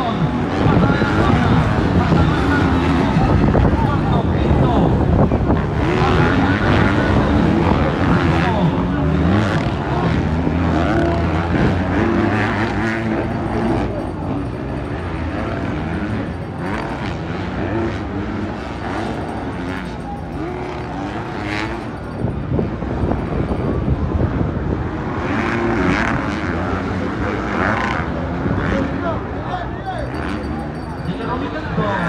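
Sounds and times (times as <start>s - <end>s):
crowd voices: 0.0s - 32.0s
motocross bike engines: 0.0s - 32.0s.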